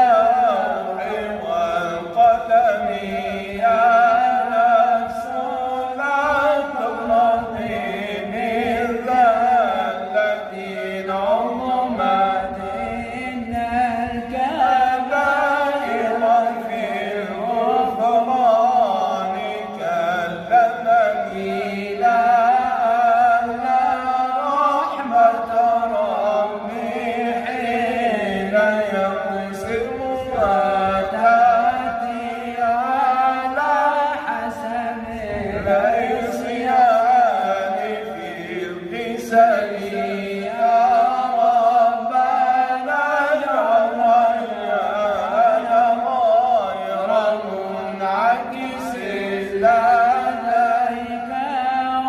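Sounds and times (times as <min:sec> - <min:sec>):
person chanting unaccompanied: 0:00.0 - 0:52.0.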